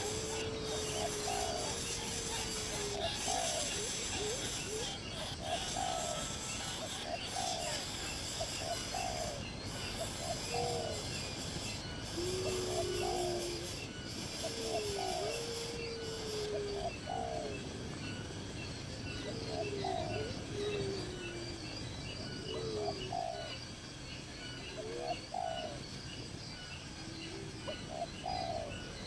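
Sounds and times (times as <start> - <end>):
birds calling: 0.0 - 29.0
steady high hiss: 0.0 - 29.0.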